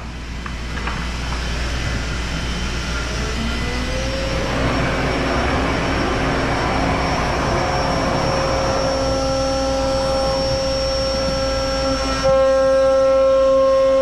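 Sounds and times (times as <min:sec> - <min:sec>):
router spindle whine: 0:00.0 - 0:14.0
steady machine tones: 0:00.0 - 0:14.0
vacuum and dust collector rush: 0:00.0 - 0:14.0.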